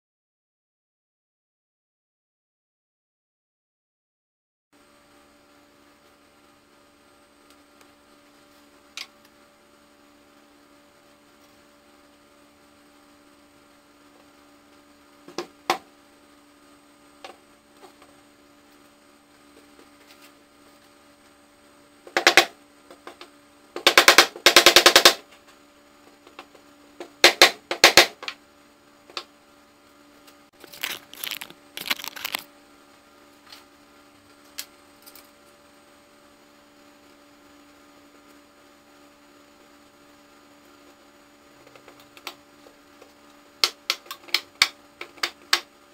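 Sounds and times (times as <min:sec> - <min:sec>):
steady low hum: 0:04.8 - 0:45.9.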